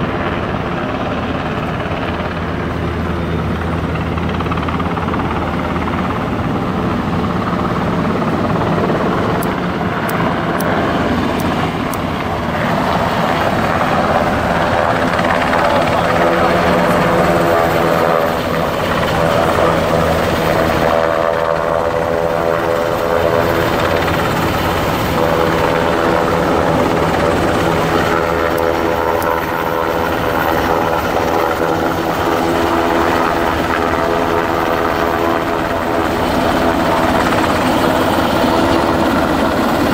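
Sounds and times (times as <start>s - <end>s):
helicopter rotor beat: 0.0s - 39.9s
turbine whine: 0.0s - 39.9s.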